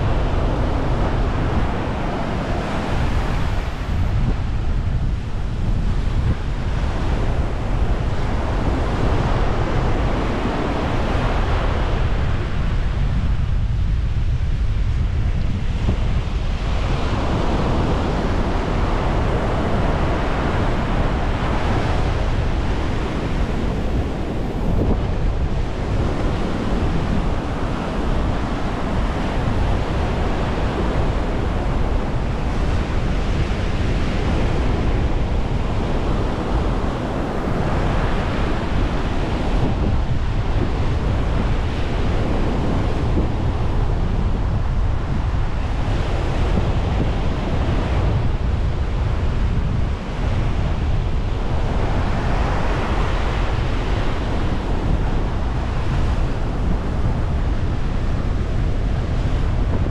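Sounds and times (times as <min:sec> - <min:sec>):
ocean surf washing onto beach: 0:00.0 - 0:59.9
wind buffeting microphone: 0:00.0 - 0:59.9.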